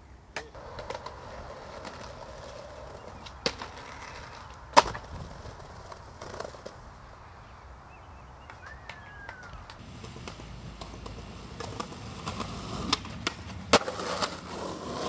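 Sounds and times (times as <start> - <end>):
skateboard clacking: 0.3 - 6.9, 8.4 - 15.0
skateboard knocks: 0.4 - 6.8, 8.4 - 14.4
skateboard wheels rolling on bricks: 0.4 - 7.1, 8.5 - 15.0.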